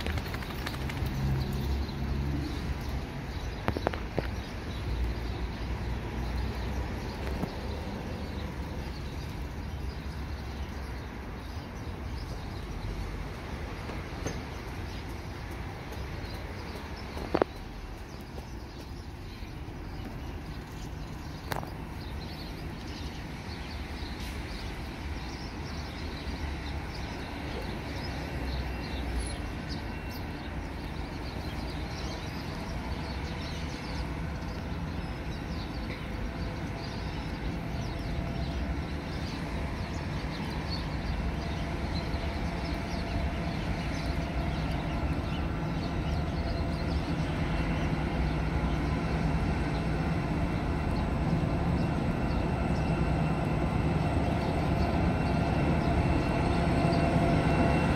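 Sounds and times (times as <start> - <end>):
birds chirping: 0.0 - 57.9
train rumbling on track: 0.0 - 57.9.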